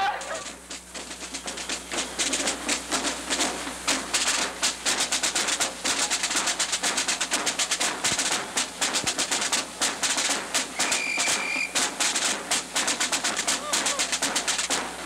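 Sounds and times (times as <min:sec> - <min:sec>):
rapid clatter of sharp knocks: 0:00.0 - 0:15.0.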